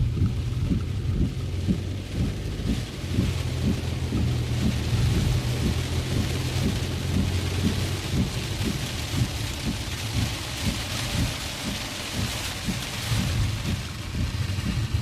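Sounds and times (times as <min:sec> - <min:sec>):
heavy rain on a car: 0:00.0 - 0:15.0
low rumble of car on road: 0:00.0 - 0:15.0.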